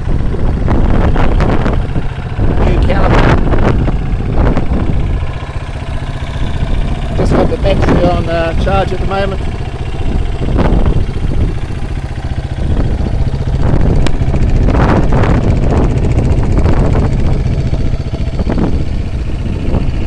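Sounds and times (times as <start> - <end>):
dirt bike engine idling: 0.0 - 20.0
wind buffeting microphone: 0.0 - 20.0.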